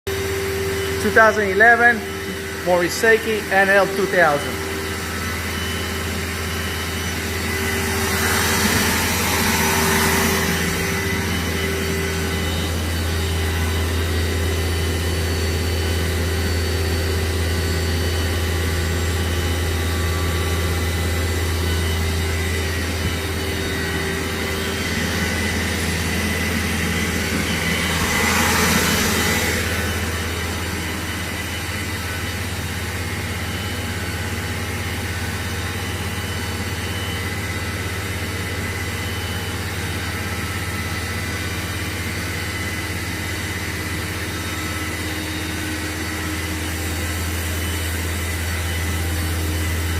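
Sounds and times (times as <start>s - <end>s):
lathe running with whine: 0.1s - 49.9s.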